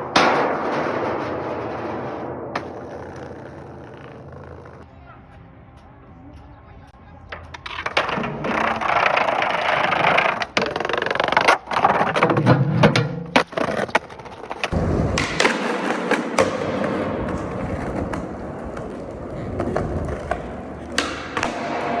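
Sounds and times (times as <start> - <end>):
skateboard clacking on ground: 0.0 - 4.9, 7.2 - 22.0
skateboard wheels rolling on pavement: 1.6 - 4.9, 7.4 - 22.0.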